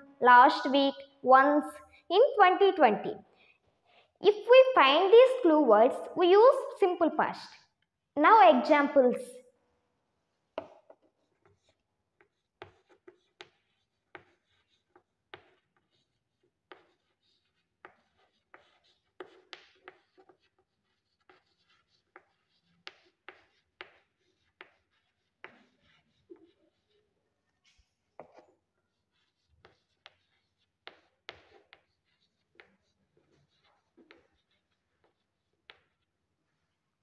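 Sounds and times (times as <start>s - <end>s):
chalk tapping and scratching on chalkboard: 1.6s - 5.6s, 10.5s - 37.0s.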